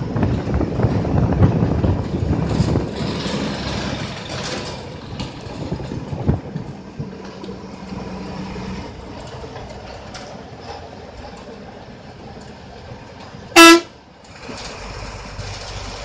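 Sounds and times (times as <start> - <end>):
bus diesel engine running: 0.0 - 16.0
road and wind noise: 0.0 - 16.0.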